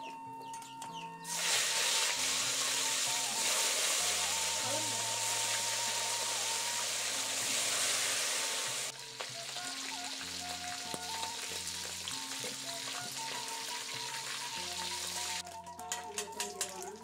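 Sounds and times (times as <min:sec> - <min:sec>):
zither and bamboo flute music: 0:00.0 - 0:08.3, 0:08.9 - 0:17.0
fish sizzling in hot oil: 0:01.3 - 0:16.4.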